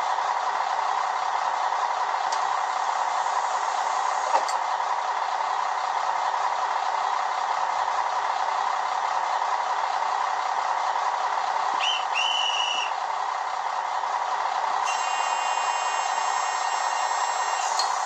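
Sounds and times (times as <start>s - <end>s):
model train engine sound: 0.0s - 18.0s.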